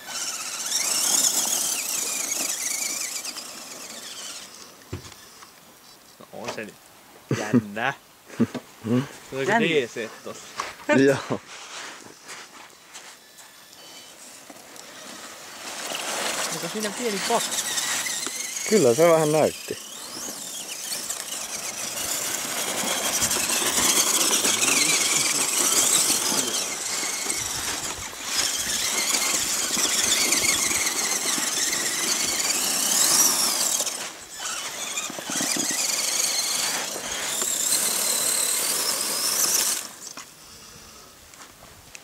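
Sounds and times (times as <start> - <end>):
rc truck motor and gears whining: 0.0 - 6.8, 13.2 - 41.2.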